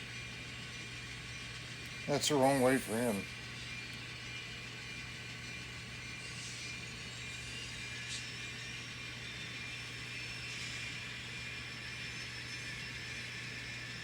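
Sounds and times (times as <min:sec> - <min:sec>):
model train motor whir: 0:00.0 - 0:14.0.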